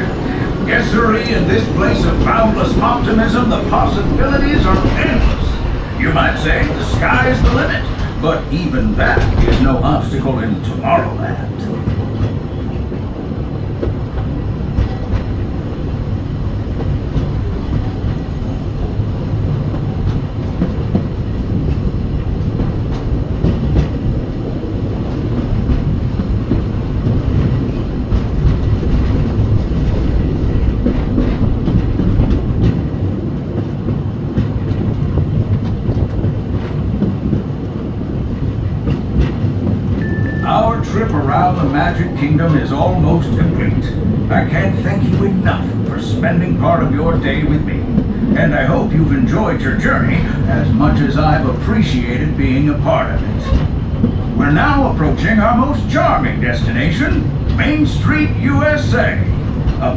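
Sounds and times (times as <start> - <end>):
train car rumbling: 0.0 - 59.9
wheels clicking over rails: 0.0 - 59.9.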